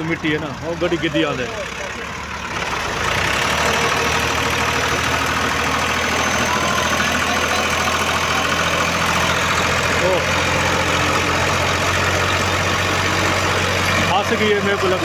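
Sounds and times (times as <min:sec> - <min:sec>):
tractor diesel engine straining: 0:00.0 - 0:15.0.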